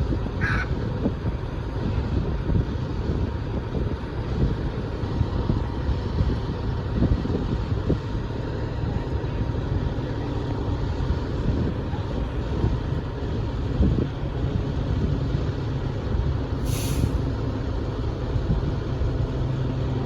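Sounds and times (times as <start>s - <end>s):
fire truck engine running: 0.0s - 20.0s.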